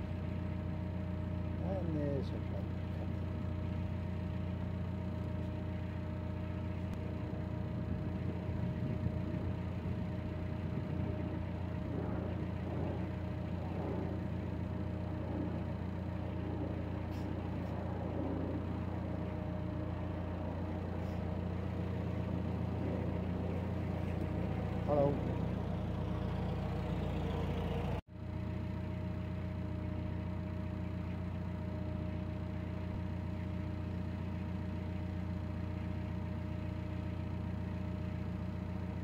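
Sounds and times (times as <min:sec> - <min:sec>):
boat diesel engine droning: 0:00.0 - 0:39.0.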